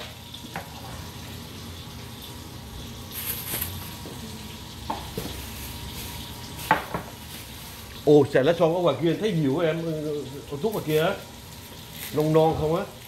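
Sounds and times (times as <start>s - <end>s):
food sizzling on stove: 0.0s - 13.0s.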